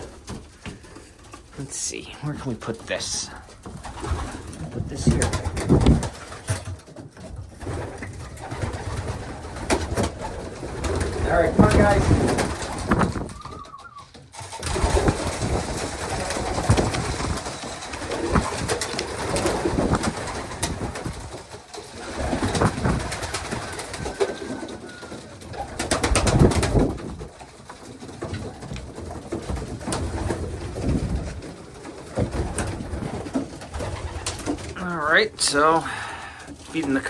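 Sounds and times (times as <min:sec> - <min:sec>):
clattering and rustling: 0:00.0 - 0:34.8
pigeons cooing: 0:03.0 - 0:34.8.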